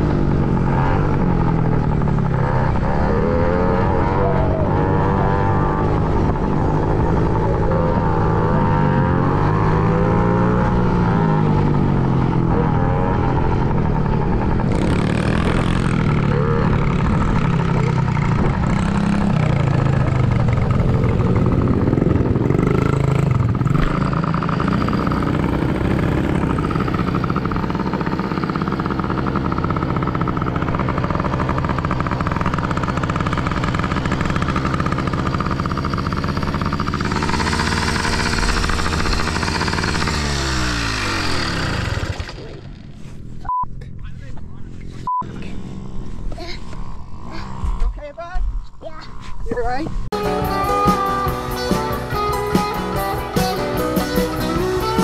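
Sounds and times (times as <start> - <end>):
dirt bike engine revving: 0.0 - 43.4, 44.4 - 48.8, 49.7 - 55.0.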